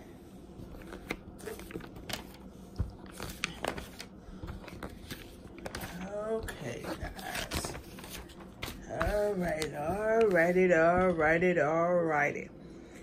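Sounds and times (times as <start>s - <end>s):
glossy paper pages rustling: 0.5s - 11.3s.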